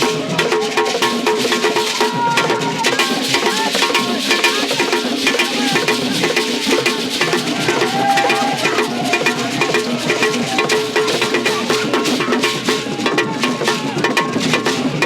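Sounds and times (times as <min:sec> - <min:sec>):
fast drum and percussion beat: 0:00.0 - 0:15.0.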